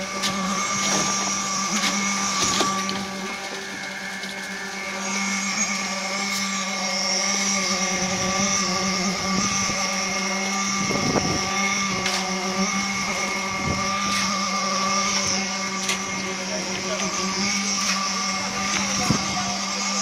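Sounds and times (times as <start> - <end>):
concrete pump humming: 0.0 - 20.0.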